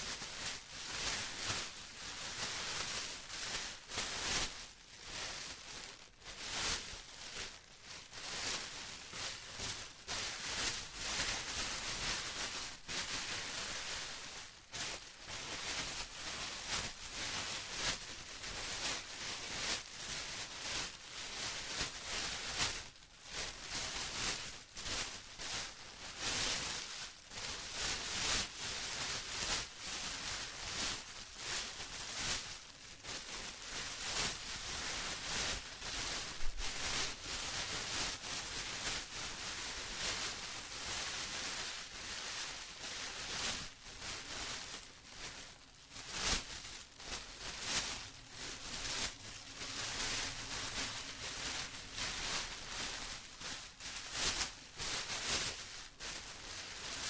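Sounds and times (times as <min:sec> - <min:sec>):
plastic crinkling: 0:00.0 - 0:57.0.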